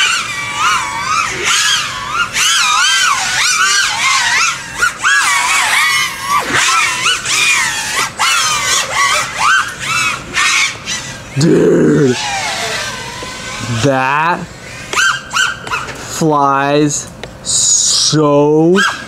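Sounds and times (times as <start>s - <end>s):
drone motors whining: 0.0s - 16.2s.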